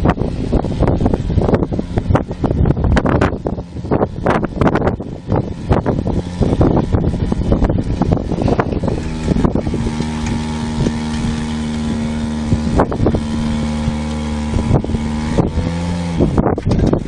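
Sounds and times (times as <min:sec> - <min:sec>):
car engine running: 0:00.0 - 0:17.0
wind buffeting microphone: 0:00.0 - 0:17.0.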